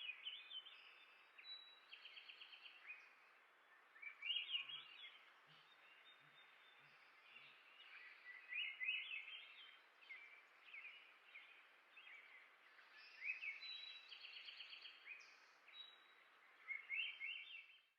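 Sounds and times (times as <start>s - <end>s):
songbird singing warbled chirps: 0.0s - 17.9s.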